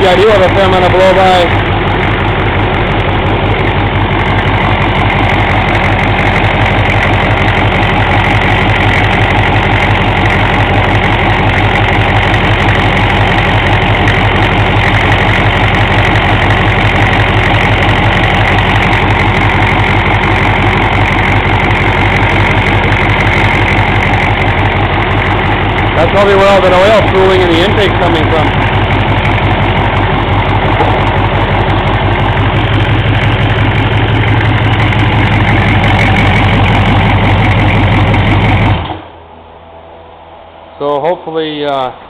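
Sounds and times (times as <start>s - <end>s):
diesel engine idling with clatter: 0.0s - 42.0s.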